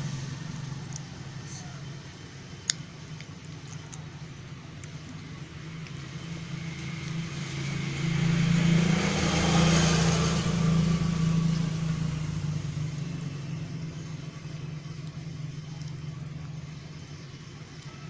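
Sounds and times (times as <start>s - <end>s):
vehicle passing by: 0.0s - 2.5s, 4.9s - 18.0s
steady low hum: 0.0s - 18.0s.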